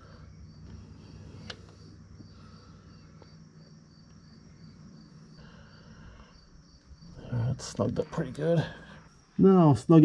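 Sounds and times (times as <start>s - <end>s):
cricket chirping: 0.0s - 10.0s
faint low hum: 0.0s - 10.0s.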